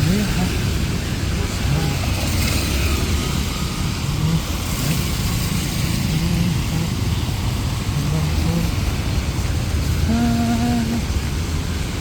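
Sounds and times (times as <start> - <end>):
heavy rain hissing: 0.0 - 12.0
vehicle rumble: 0.0 - 12.0.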